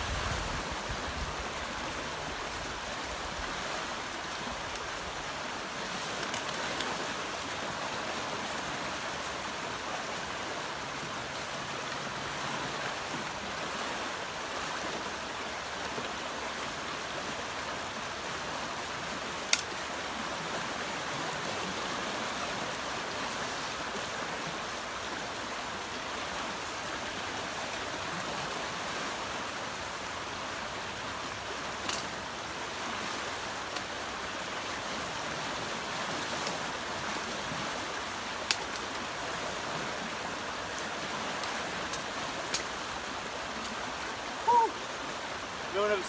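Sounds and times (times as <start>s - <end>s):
fast-flowing river rushing: 0.0s - 46.0s.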